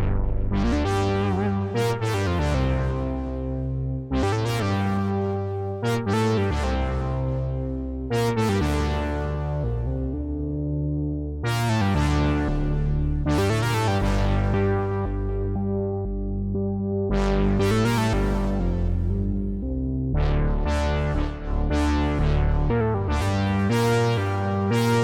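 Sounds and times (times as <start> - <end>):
synthesizer bass line: 0.0 - 25.0.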